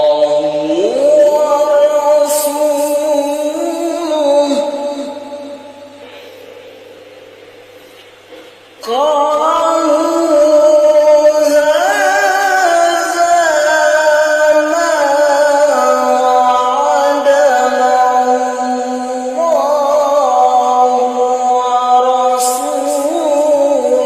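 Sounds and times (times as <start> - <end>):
man reciting melodically: 0.0 - 6.1, 8.8 - 24.0.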